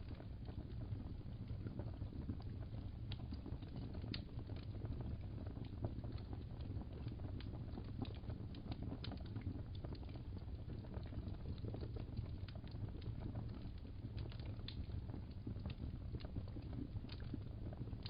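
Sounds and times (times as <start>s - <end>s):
low rumble of fire: 0.0s - 18.0s
wood fire crackling: 2.4s - 18.0s.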